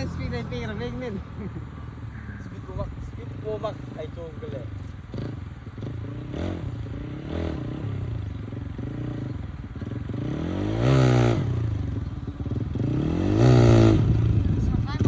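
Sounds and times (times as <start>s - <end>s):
motorcycle engine revving: 0.0s - 1.5s, 2.6s - 15.0s.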